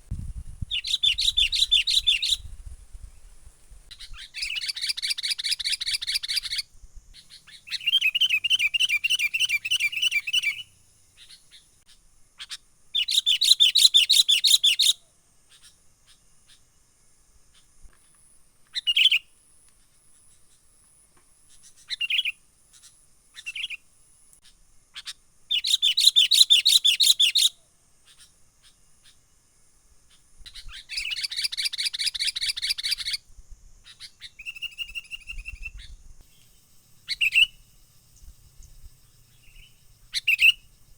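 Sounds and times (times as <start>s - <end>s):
faint steady high hiss: 0.0s - 40.9s.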